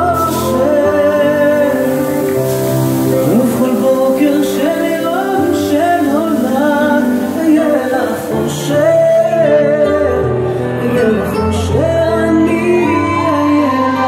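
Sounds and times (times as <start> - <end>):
slow-dance song with singing: 0.0 - 14.0.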